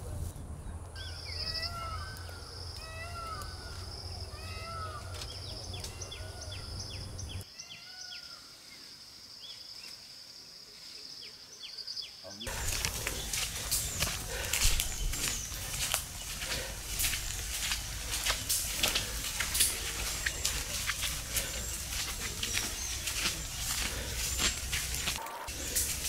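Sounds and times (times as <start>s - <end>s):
birds chirping and whistling: 1.0s - 8.2s, 11.6s - 26.0s.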